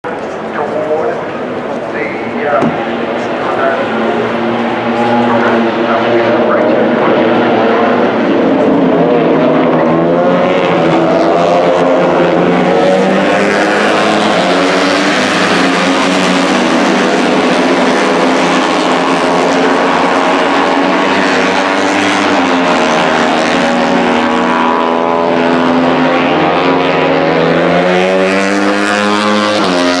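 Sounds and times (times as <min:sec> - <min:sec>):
racing motorcycles passing: 0:00.1 - 0:30.0.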